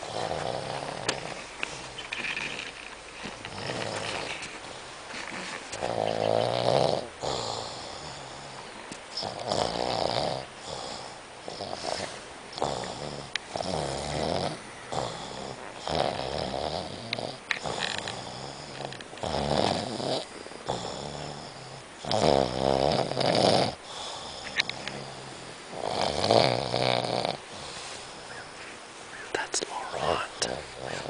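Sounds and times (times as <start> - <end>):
person snoring: 0.0 - 1.8, 3.5 - 4.4, 5.2 - 28.3, 29.7 - 31.0.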